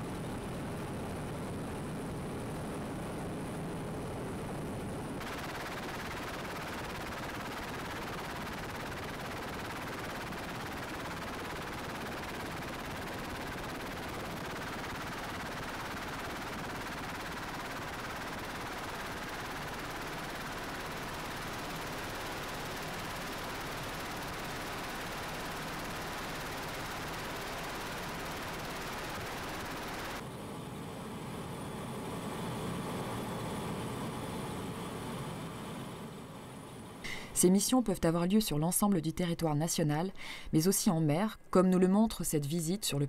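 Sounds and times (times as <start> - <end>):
helicopter rotor and turbine: 0.0 - 38.5.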